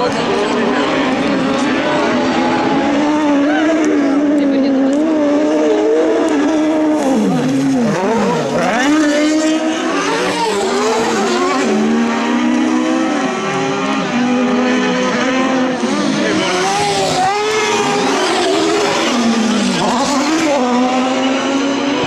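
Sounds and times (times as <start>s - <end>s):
racing buggy engines revving: 0.0s - 22.0s.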